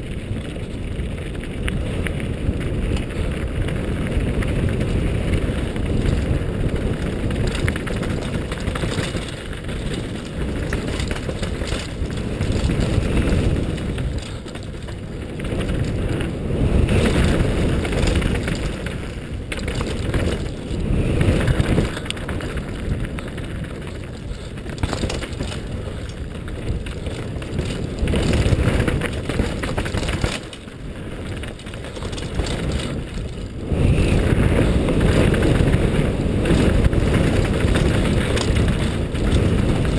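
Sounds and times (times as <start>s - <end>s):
bike rattling clicks and knocks: 0.0s - 39.9s
tyres crunching on gravel: 0.0s - 39.9s
wind rushing over microphone: 0.0s - 39.9s.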